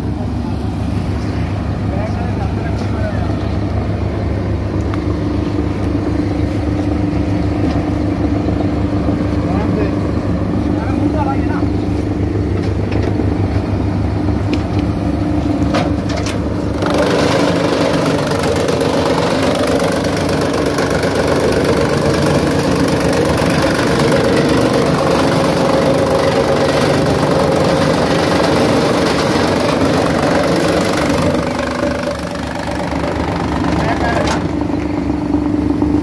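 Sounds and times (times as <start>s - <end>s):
tractor engine running: 0.0s - 36.0s
wood chipper shredding log: 1.2s - 36.0s.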